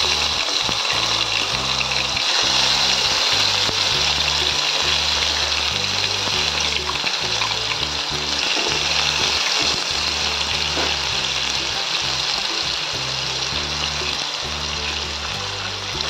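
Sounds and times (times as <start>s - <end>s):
background music: 0.0s - 16.0s
paste sizzling in hot oil: 0.0s - 16.0s.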